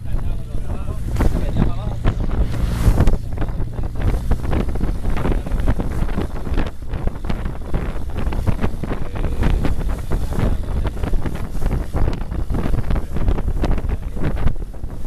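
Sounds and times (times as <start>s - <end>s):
boat engine running: 0.0s - 15.0s
wake rushing along hull: 0.0s - 15.0s
wind buffeting microphone: 0.0s - 15.0s.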